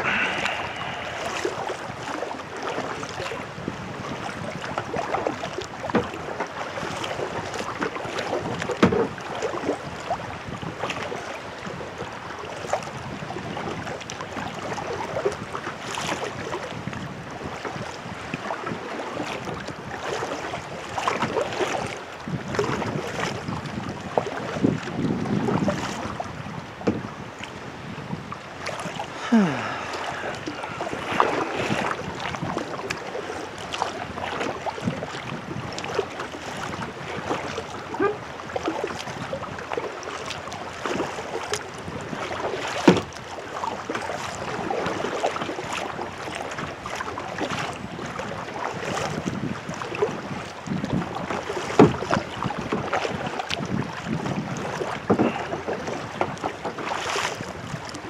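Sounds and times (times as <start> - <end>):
wind buffeting microphone: 0.0 - 6.3, 12.8 - 39.7, 40.9 - 58.0
kayak paddle strokes: 0.0 - 58.0
water splashing against kayak: 0.0 - 58.0.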